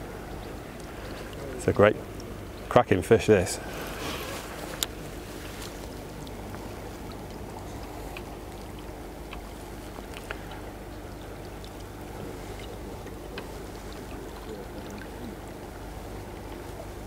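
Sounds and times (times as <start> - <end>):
shallow river water rushing: 0.0 - 17.0.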